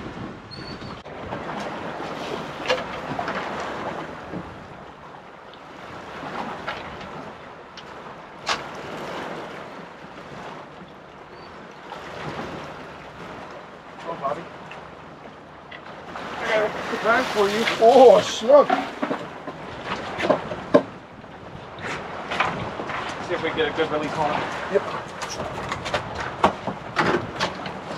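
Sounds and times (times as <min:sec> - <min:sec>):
water chopping around boat: 0:00.0 - 0:27.9
wind buffeting microphone: 0:00.0 - 0:27.9.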